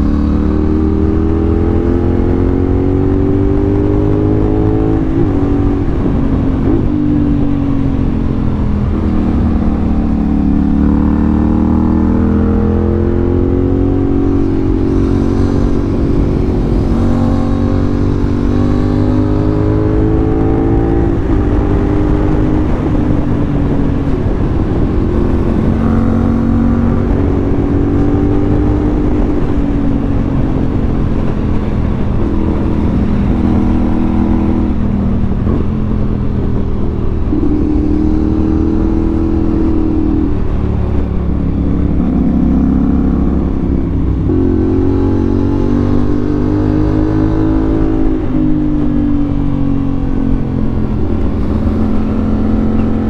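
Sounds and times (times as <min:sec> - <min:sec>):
motorcycle engine revving: 0:00.0 - 0:53.0
low rumble: 0:02.8 - 0:53.0.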